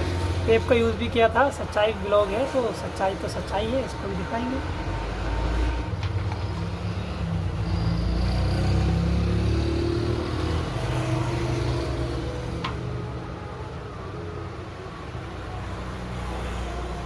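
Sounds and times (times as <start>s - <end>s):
vehicle engine rumble passing: 0.0s - 17.0s.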